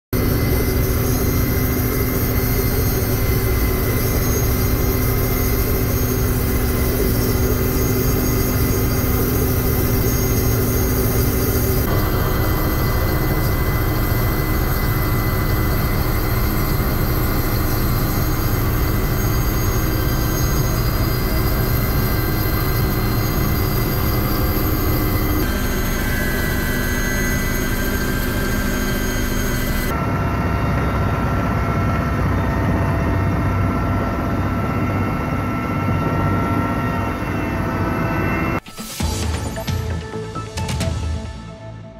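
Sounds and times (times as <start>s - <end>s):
helicopter engine and rotor: 0.1s - 41.3s
aircraft engines droning: 0.2s - 41.9s.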